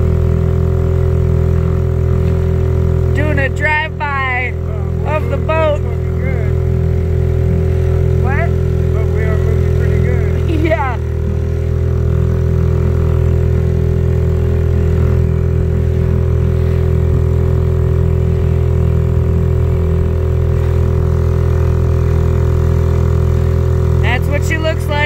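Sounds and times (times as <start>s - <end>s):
outboard motor running: 0.0s - 25.0s.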